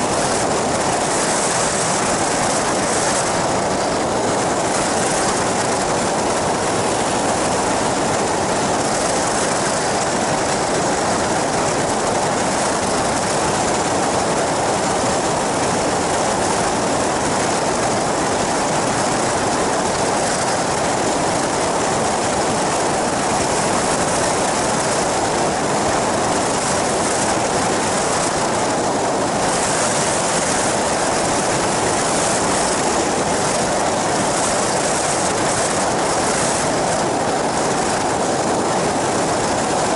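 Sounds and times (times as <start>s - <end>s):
aircraft engine drone: 0.0s - 39.9s
rushing wind: 0.0s - 39.9s.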